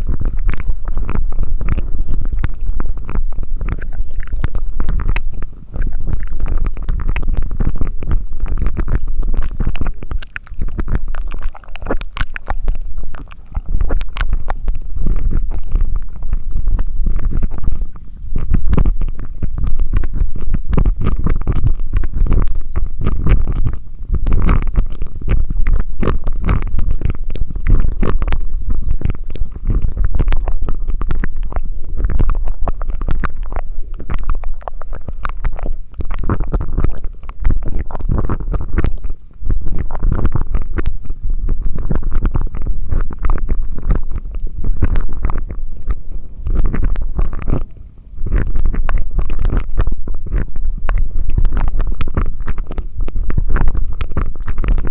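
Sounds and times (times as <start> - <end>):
wet mouth clicks and pops: 0.0 - 54.9.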